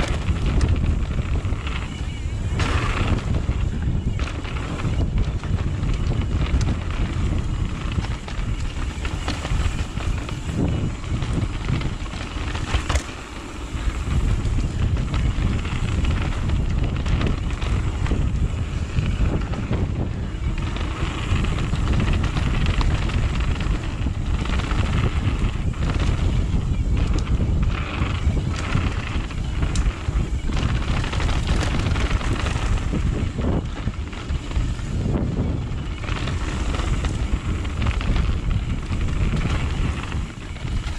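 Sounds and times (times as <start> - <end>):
bike rattling and clicking: 0.0 - 40.9
bike tyre rumble: 0.0 - 40.9
wind rushing over microphone: 0.0 - 40.9.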